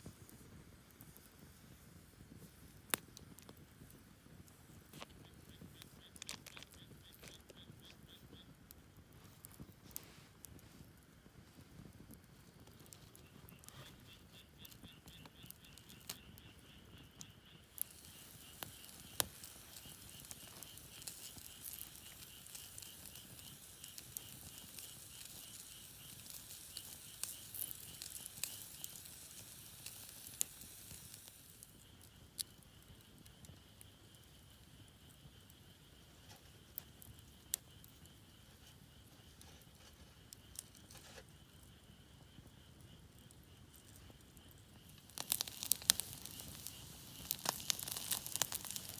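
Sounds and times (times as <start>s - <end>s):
campfire crackling and popping: 0.0s - 48.9s
insect chirping: 5.2s - 8.6s, 12.9s - 48.9s.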